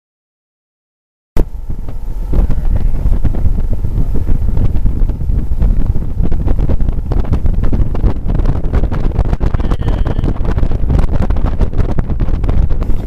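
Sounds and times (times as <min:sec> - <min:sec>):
boat motor: 0:01.4 - 0:13.0
water noise: 0:01.4 - 0:13.0
wind buffeting microphone: 0:01.4 - 0:13.0.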